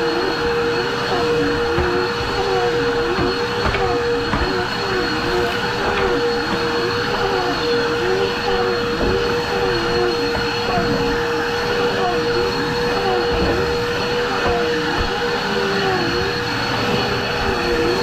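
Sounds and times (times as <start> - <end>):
swooping vacuum tone: 0.0 - 18.0
vacuum cleaner motor whine: 0.0 - 18.0.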